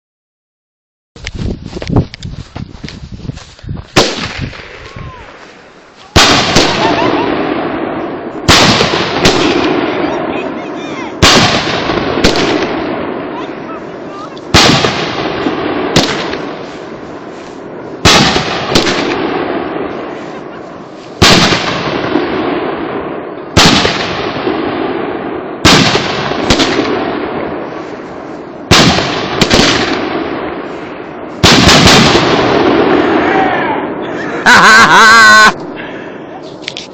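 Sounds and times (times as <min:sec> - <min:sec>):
fireworks bangs: 0:03.8 - 0:36.9
rumbling echo: 0:03.9 - 0:36.3.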